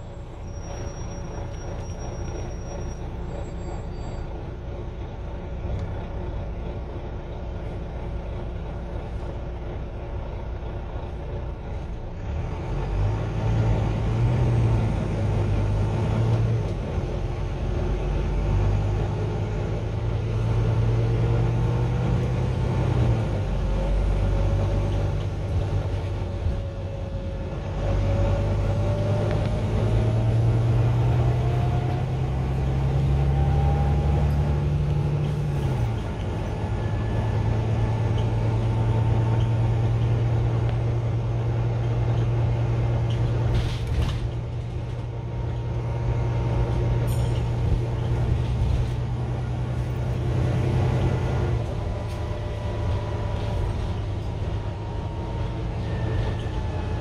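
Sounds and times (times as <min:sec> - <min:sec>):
bus engine droning: 0:00.0 - 0:57.0
thin drivetrain whine: 0:00.0 - 0:57.0.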